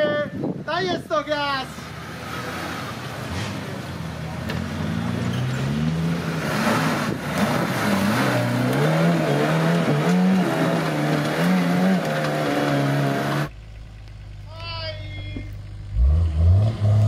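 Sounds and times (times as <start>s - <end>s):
off-road engine revving: 1.7s - 17.0s.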